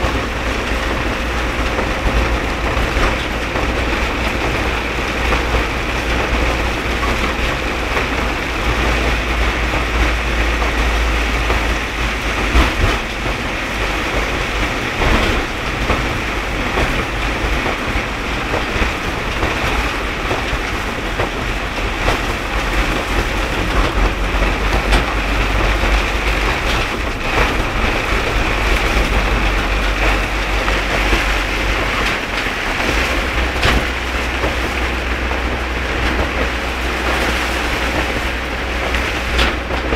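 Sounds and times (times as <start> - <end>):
low vehicle rumble: 0.0 - 39.9.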